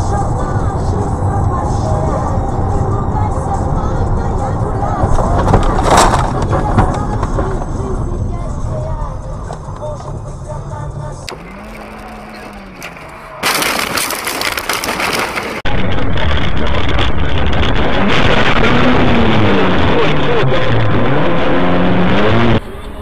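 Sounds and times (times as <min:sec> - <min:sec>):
road and engine noise: 0:00.0 - 0:23.0.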